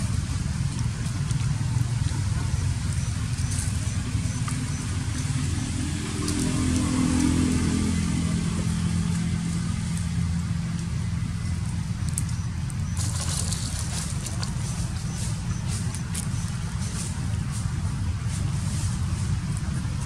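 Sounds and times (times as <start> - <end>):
dry leaves rustling: 0.0 - 20.0
motor engine drone: 0.0 - 20.0.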